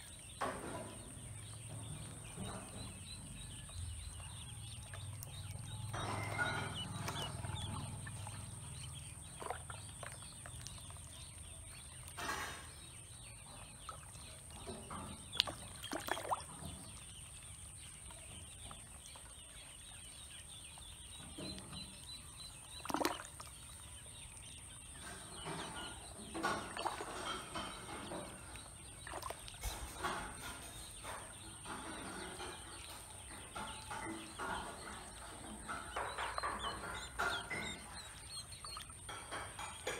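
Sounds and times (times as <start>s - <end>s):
ducklings peeping: 0.0s - 39.9s
water splashes: 2.3s - 19.4s, 22.0s - 39.9s.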